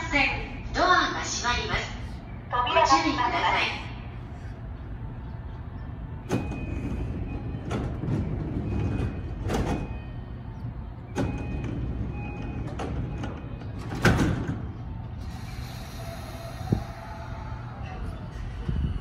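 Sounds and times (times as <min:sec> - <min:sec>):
low rumble of standing train: 0:00.0 - 0:19.0
train doors closing: 0:00.0 - 0:19.0.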